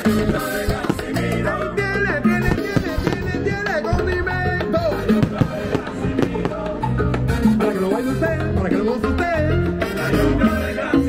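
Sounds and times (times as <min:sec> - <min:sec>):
salsa music playing loudly: 0:00.0 - 0:11.0.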